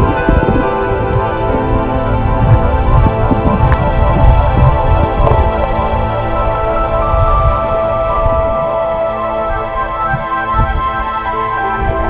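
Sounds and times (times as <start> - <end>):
synth music over low beat: 0.0 - 12.0.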